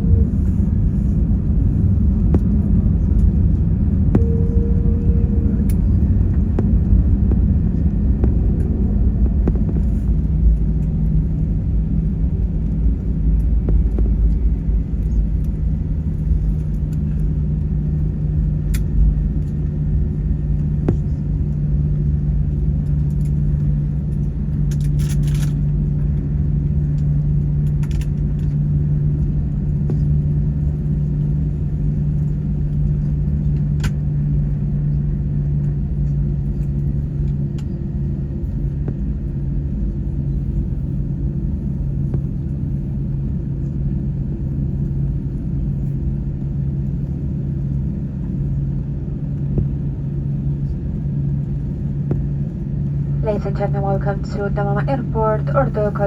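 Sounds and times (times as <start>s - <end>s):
airliner cabin engine rumble: 0.0s - 56.0s
steady hum: 0.0s - 56.0s.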